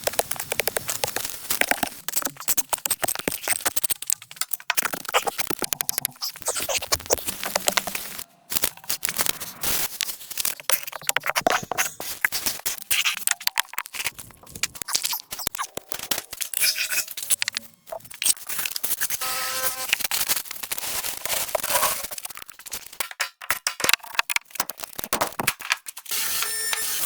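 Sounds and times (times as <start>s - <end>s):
crunching and scraping building work: 0.0s - 27.0s.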